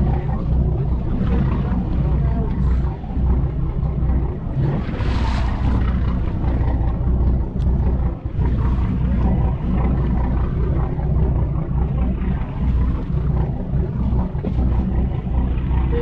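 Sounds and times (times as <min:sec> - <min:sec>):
boat engine humming: 0:00.0 - 0:16.0
water noise: 0:00.0 - 0:16.0
wind: 0:00.0 - 0:16.0.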